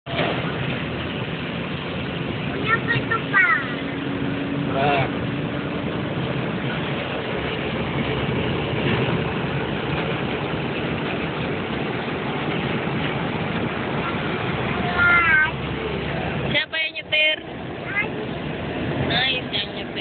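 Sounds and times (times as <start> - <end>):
highway traffic engine hum: 0.0 - 20.0
road noise: 0.0 - 20.0.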